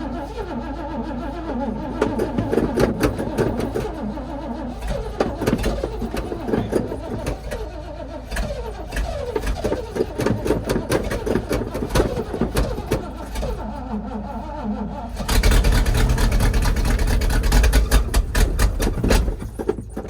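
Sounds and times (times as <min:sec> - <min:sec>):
engine cranking on starter: 0:00.0 - 0:20.0.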